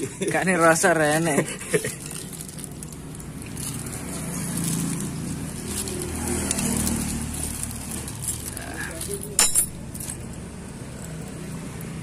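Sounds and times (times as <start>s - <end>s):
vehicle engine running: 2.0s - 12.0s.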